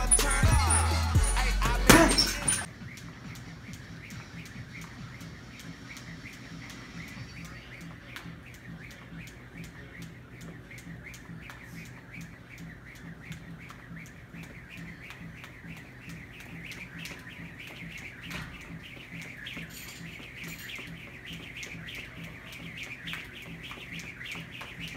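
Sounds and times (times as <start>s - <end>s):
jump rope slapping floor: 1.9s - 24.9s.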